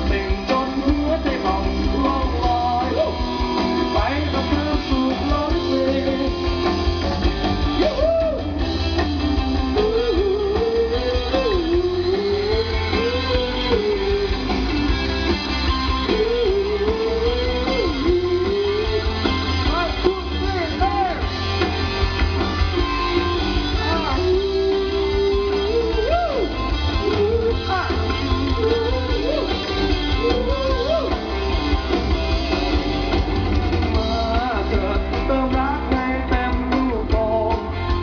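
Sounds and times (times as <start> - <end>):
person singing: 0.0 - 15.0, 15.7 - 21.3, 22.8 - 33.2, 33.9 - 38.0
rock band playing live: 0.0 - 38.0.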